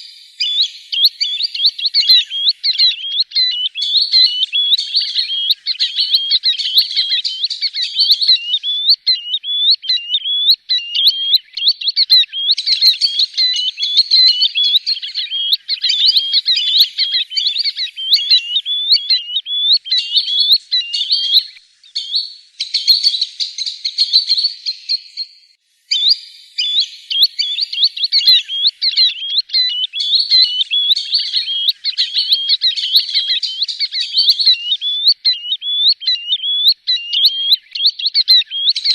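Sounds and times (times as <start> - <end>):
sandpipers calling: 0.0 - 24.8, 25.9 - 38.9.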